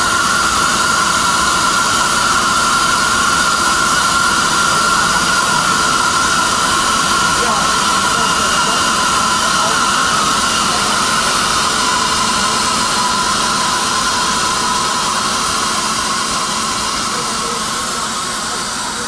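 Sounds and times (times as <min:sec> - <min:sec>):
constant machine hum: 0:00.0 - 0:19.0
industrial machine hiss: 0:00.0 - 0:19.0.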